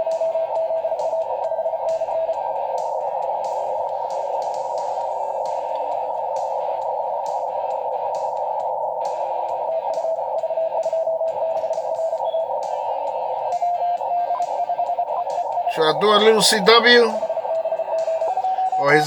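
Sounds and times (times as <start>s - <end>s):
faint morse code signals: 0.0s - 19.0s
radio band noise hiss: 0.0s - 19.0s.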